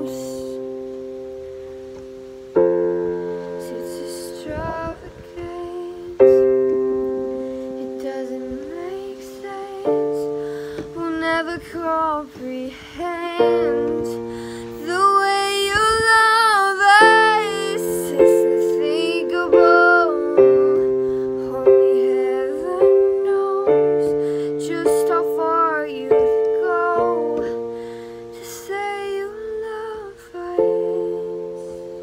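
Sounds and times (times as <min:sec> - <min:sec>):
woman singing with vibrato: 0:00.0 - 0:01.5, 0:02.5 - 0:32.0
slow accompaniment chords: 0:00.0 - 0:32.0.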